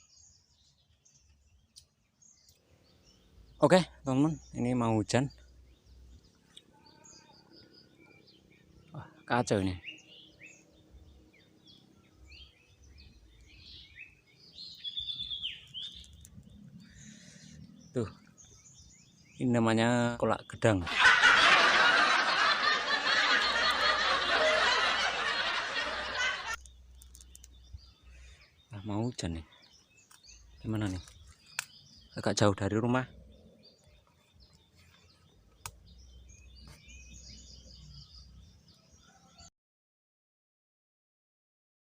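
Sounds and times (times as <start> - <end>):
birds chirping: 0.0 - 39.5.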